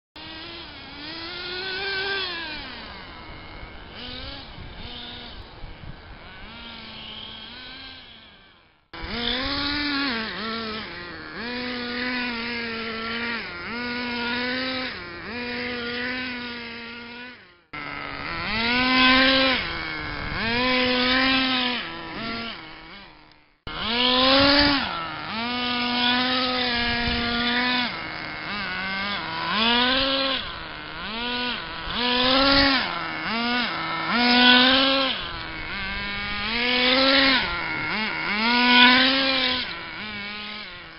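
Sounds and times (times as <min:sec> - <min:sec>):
small glow engine revving: 0:00.2 - 0:40.9.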